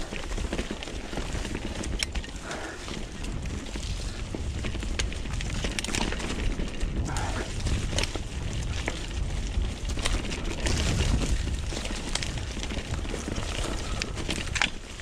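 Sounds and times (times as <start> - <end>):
bike knocking and rattling: 0.0 - 15.0
tyres on loose dirt and stones: 0.0 - 15.0
wind rumble on microphone: 0.0 - 15.0.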